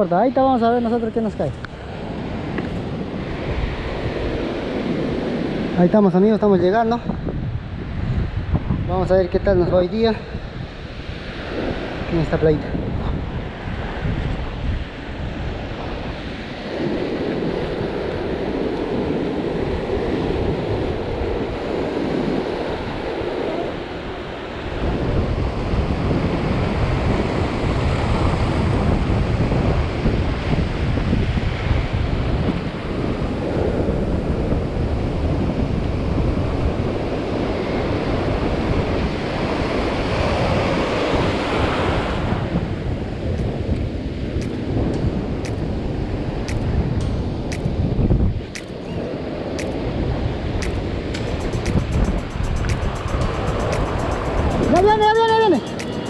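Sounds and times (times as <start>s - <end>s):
wind buffeting microphone: 0.0s - 55.6s.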